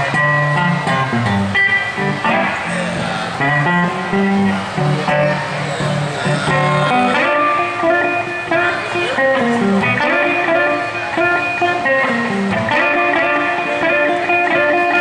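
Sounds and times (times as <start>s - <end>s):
electric blues guitar solo: 0.0s - 15.0s.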